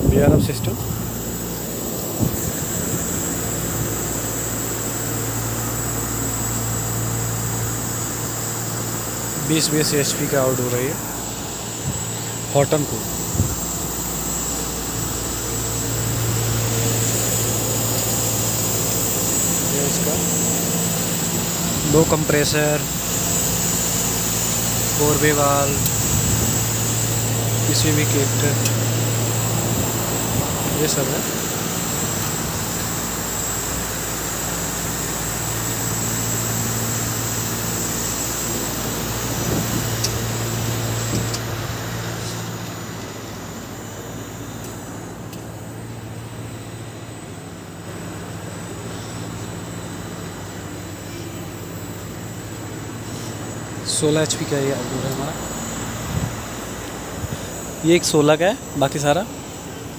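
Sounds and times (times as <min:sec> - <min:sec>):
compressor hum: 0:00.0 - 0:59.9
faint high whine: 0:00.0 - 0:59.9
fan drone: 0:00.0 - 0:59.9.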